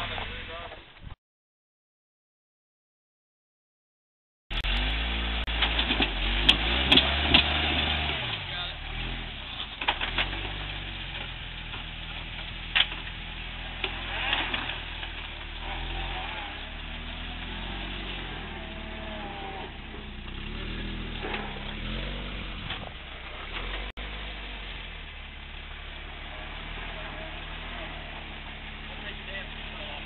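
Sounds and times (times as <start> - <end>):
engine revving: 4.5 - 30.0.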